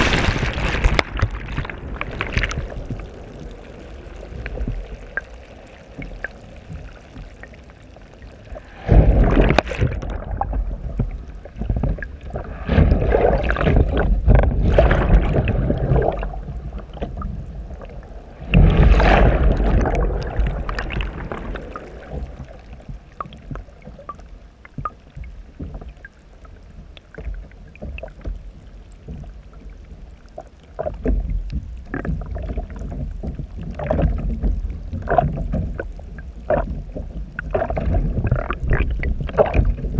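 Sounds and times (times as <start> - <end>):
muffled water rushing past hull: 0.0 - 39.9.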